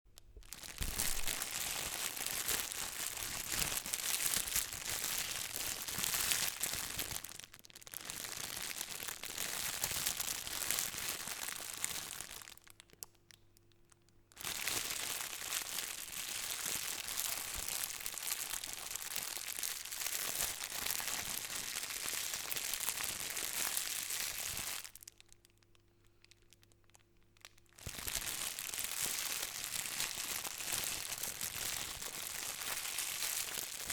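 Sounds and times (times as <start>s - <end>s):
plastic bag crinkling: 0.2s - 13.0s, 14.4s - 33.9s.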